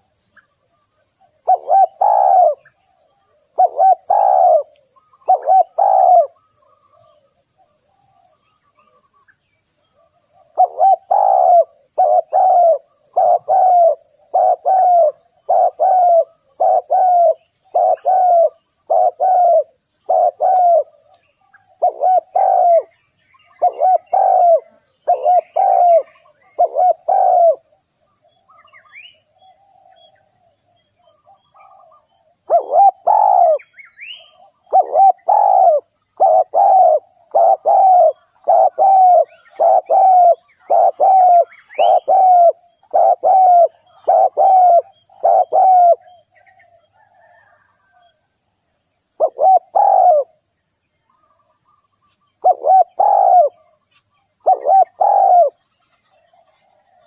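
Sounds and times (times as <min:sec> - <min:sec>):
dove cooing: 0:00.7 - 0:09.0, 0:10.0 - 0:27.8, 0:29.2 - 0:48.2, 0:49.2 - 0:50.4, 0:51.2 - 0:53.8, 0:54.4 - 0:57.0.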